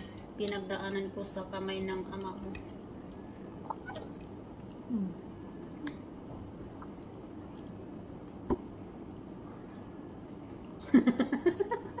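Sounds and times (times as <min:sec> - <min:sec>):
low falling hum: 0:00.0 - 0:12.0.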